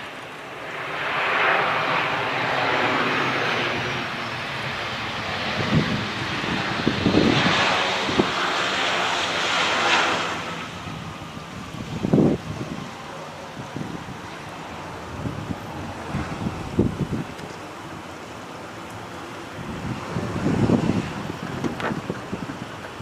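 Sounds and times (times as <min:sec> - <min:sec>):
jet engines rushing: 0:00.0 - 0:23.0
wind buffeting microphone: 0:03.6 - 0:18.4, 0:19.1 - 0:23.0.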